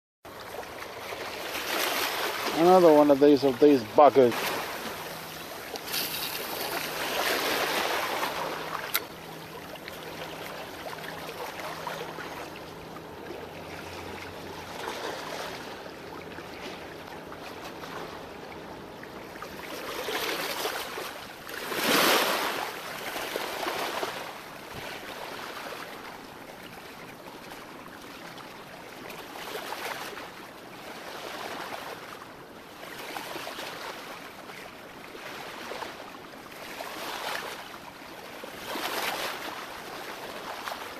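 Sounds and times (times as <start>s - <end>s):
waves lapping against rocks: 0.3s - 40.9s.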